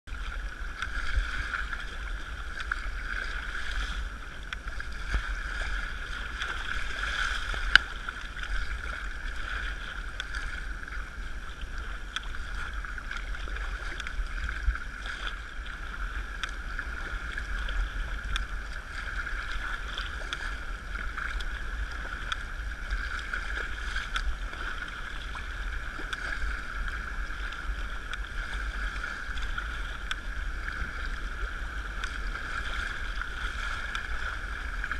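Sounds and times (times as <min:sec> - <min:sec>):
water splashing around kayak: 0:00.1 - 0:34.9
wind rumble on microphone: 0:00.1 - 0:34.9.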